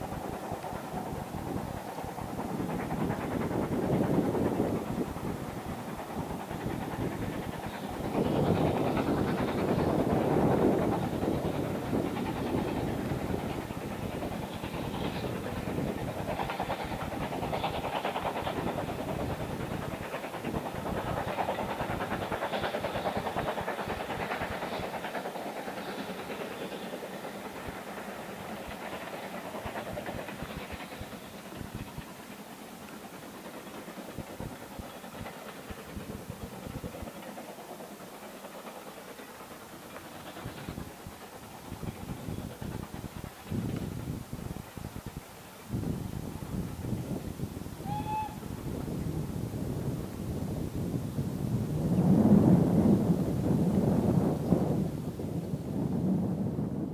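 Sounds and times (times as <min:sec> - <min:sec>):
steam locomotive passing: 0:00.0 - 0:56.9.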